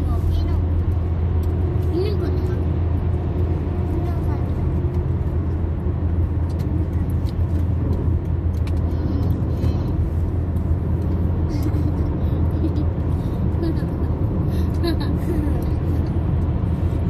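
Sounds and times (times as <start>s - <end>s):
car tyre and engine drone: 0.0s - 17.0s.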